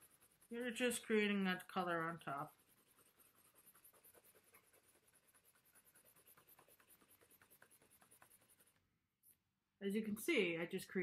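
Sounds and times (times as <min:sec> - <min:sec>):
pencil scratching on paper: 0:00.0 - 0:09.4.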